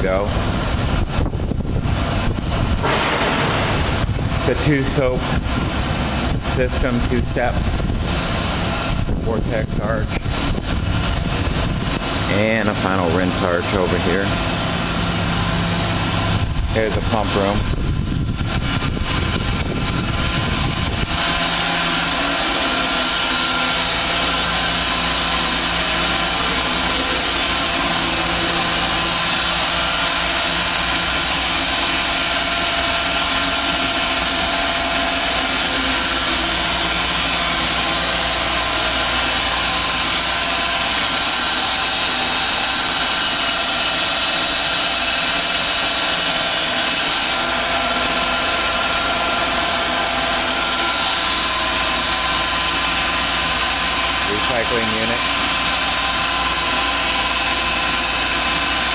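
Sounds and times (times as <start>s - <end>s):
pumps and motors droning: 0.0s - 58.9s
steady whining tones: 0.0s - 58.9s.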